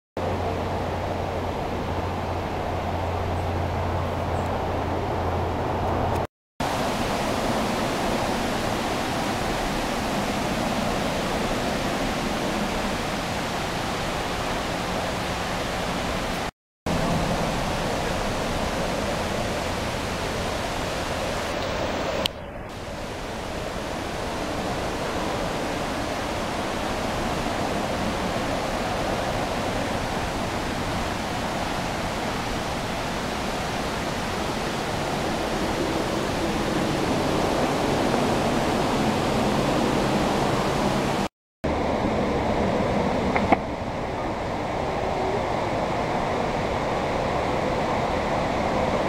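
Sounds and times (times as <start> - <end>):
waterfall rushing: 0.2 - 49.0.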